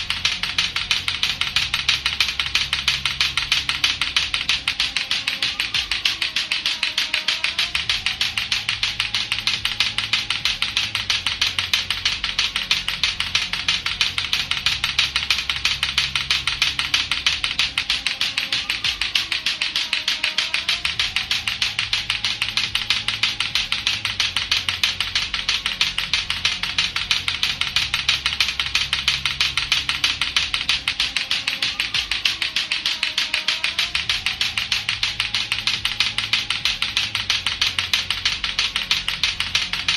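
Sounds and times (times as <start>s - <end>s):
background music: 0.0s - 39.9s
plastic clacker balls clacking: 0.0s - 39.9s.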